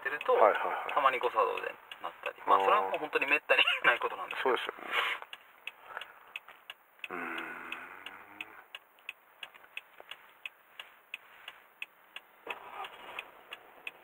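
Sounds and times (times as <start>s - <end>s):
turn signal ticking: 0.0s - 14.0s.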